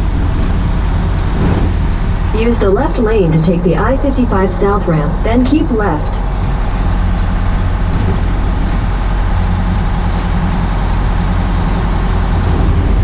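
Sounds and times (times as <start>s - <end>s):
diesel engine drone: 0.0s - 13.0s
tyre and road noise: 0.0s - 13.0s.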